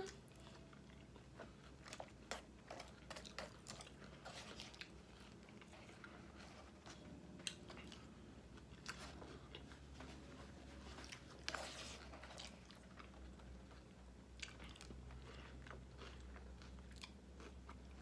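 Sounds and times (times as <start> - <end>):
chewing salad: 0.0 - 18.0.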